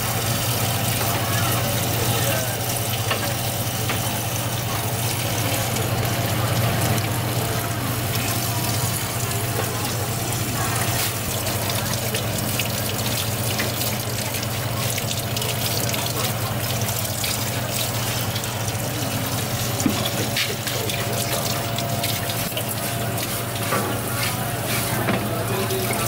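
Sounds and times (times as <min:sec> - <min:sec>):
tap water running into sink: 0:00.0 - 0:26.0.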